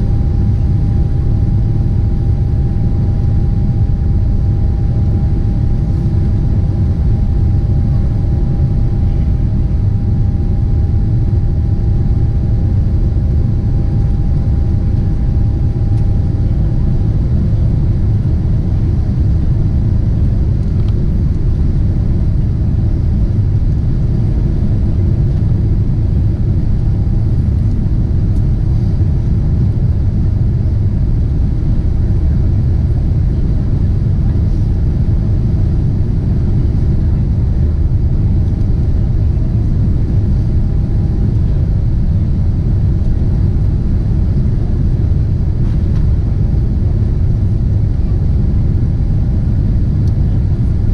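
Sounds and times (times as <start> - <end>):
airliner engines rumbling: 0.0 - 50.9.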